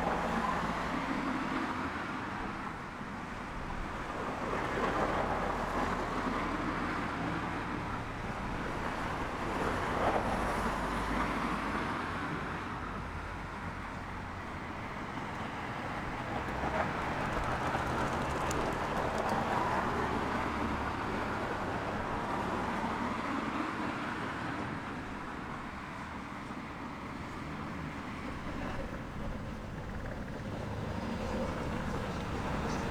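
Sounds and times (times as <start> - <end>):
distant road traffic: 0.0 - 32.9.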